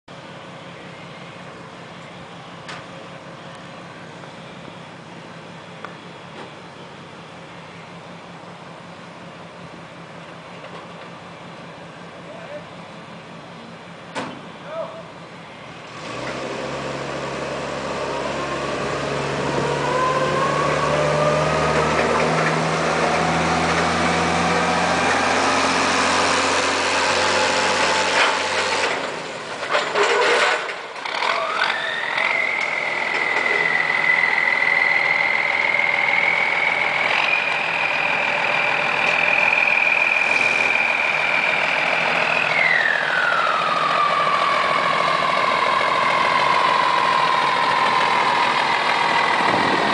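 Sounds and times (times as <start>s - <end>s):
diesel truck engine: 0.0s - 49.9s
high engine whine: 0.1s - 49.9s.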